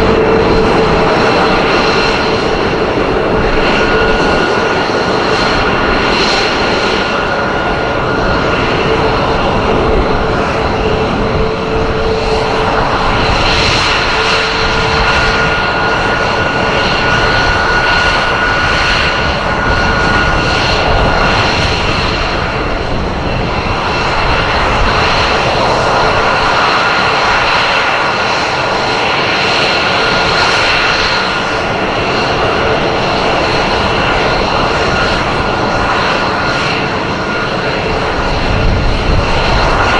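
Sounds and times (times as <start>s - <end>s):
aircraft engine roar: 0.0s - 39.9s.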